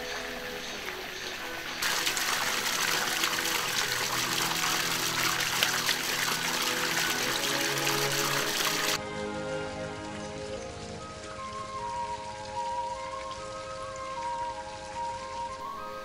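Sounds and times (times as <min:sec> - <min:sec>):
soft background music: 0:00.0 - 0:16.0
splashing falling water: 0:00.0 - 0:16.0.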